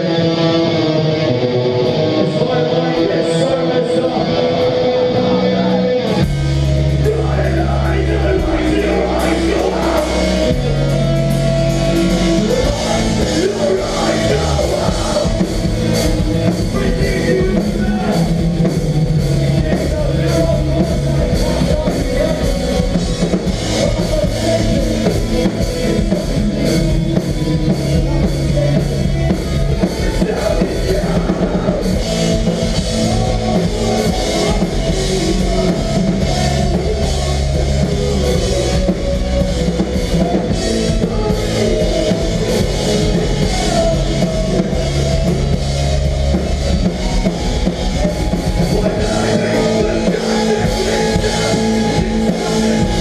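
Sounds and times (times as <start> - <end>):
bass guitar: 0.0 - 53.0
drums: 0.0 - 53.0
electric guitar: 0.0 - 53.0.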